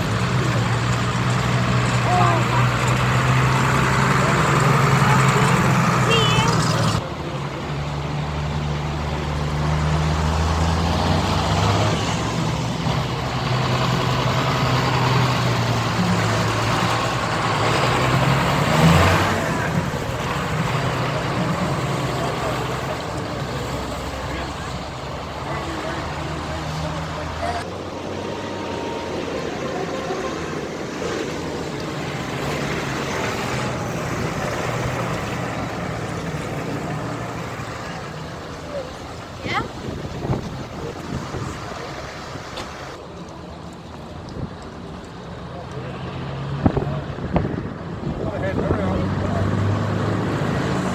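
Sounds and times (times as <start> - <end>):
heavy vehicle engine humming: 0.0 - 50.9
road and traffic noise: 0.0 - 50.9.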